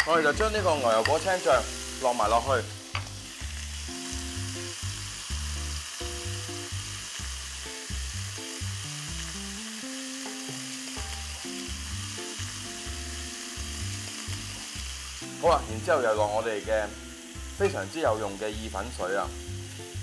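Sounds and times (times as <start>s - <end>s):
background music: 0.0s - 20.0s
chicken sizzling in frying pan: 0.0s - 20.0s.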